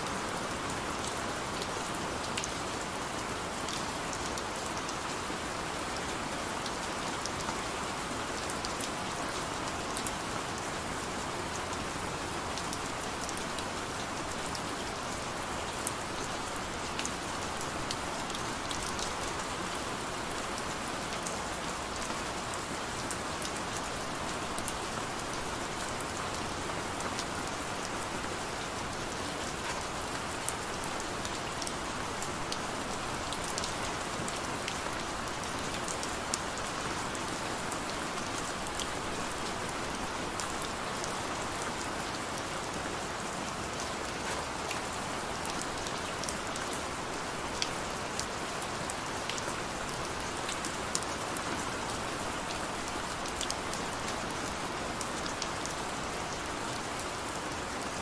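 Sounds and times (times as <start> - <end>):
raindrops ticking on surfaces: 0.0 - 58.0
steady rain: 0.0 - 58.0.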